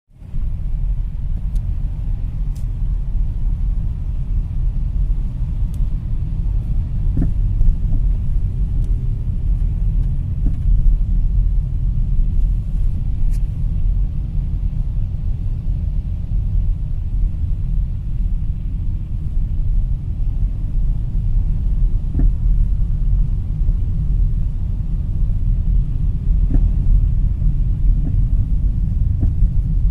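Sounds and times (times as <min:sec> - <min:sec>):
low road rumble: 0:00.1 - 0:29.9.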